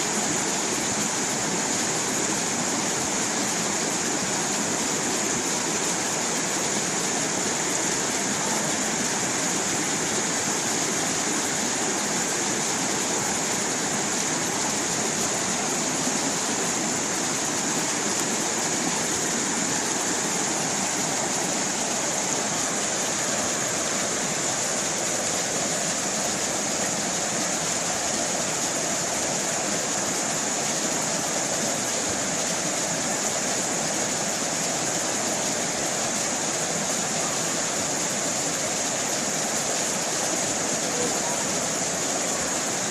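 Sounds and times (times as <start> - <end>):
stream running over rocks: 0.0 - 42.9.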